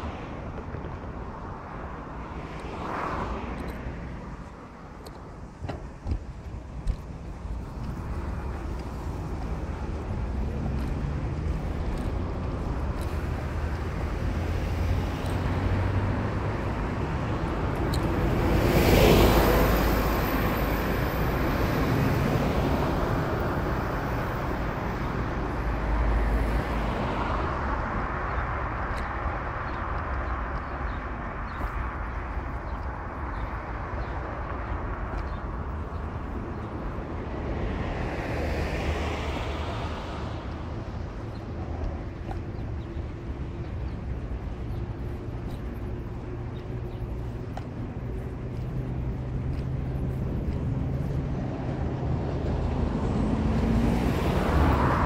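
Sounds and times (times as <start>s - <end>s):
road traffic rumbling: 0.0s - 55.0s.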